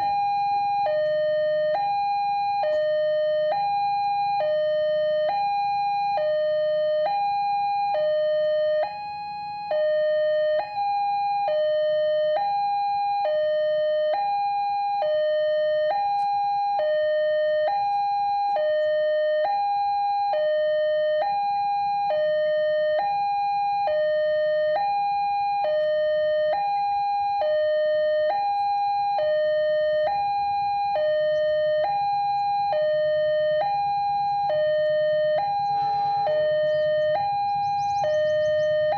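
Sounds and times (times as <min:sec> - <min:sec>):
two-tone crossing alarm: 0:00.0 - 0:38.9.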